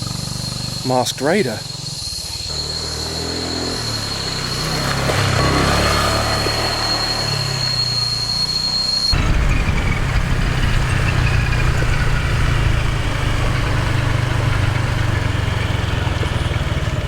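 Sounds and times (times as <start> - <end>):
motorbike engine droning: 0.0 - 17.0.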